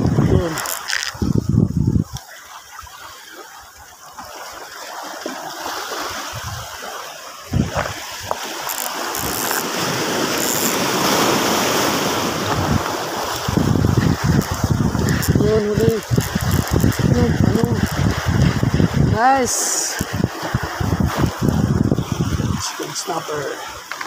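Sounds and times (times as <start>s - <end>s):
waves splashing over rocks: 0.0s - 24.0s.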